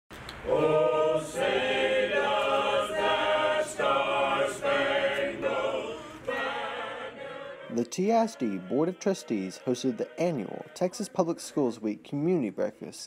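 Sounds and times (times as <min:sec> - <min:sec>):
vocal ensemble singing chords: 0:00.3 - 0:12.7.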